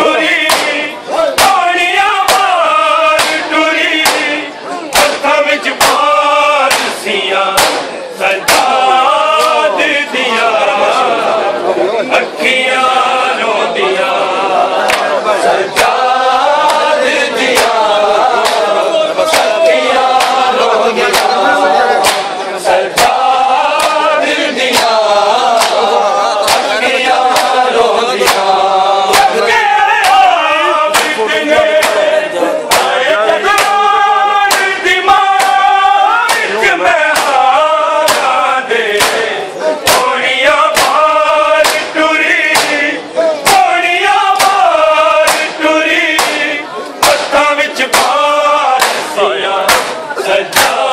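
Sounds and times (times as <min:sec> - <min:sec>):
sharp rhythmic beats: 0:00.0 - 0:11.5, 0:12.1 - 0:50.9
men singing in chorus: 0:00.0 - 0:50.9.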